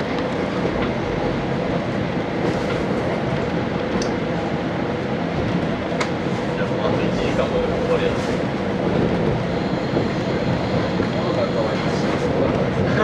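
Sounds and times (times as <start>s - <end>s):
diesel railcar cabin rumble: 0.0s - 13.0s.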